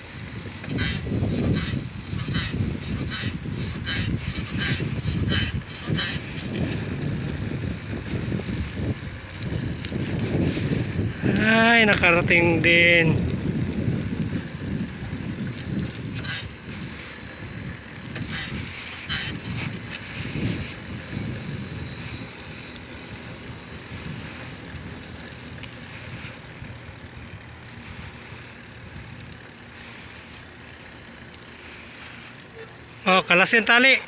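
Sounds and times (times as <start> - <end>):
bicycle road noise: 0.0 - 34.0
sharp rattles: 0.0 - 34.0
wind buffeting microphone: 0.1 - 29.2.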